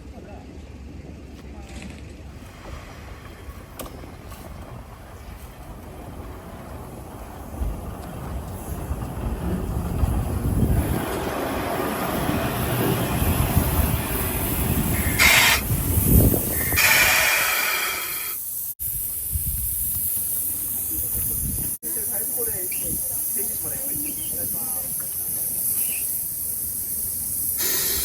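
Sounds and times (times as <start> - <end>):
steam locomotive rumble: 2.2 - 28.0
steam hissing: 5.2 - 28.0.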